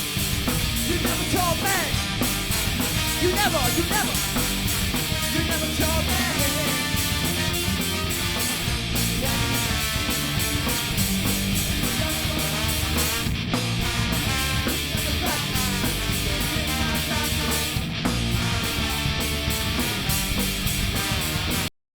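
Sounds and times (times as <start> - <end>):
distorted electric guitar: 0.0 - 21.7
pounding drum beat: 0.0 - 21.7.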